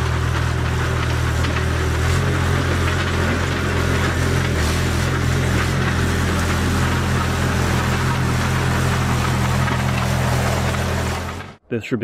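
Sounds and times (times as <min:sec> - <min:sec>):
blade pushing soil: 0:00.0 - 0:11.6
bulldozer engine running: 0:00.0 - 0:11.6.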